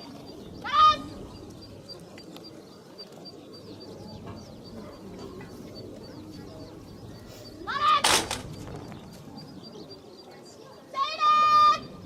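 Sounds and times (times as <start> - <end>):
crowd murmur: 0.0 - 12.0
small birds chirping: 0.0 - 12.0.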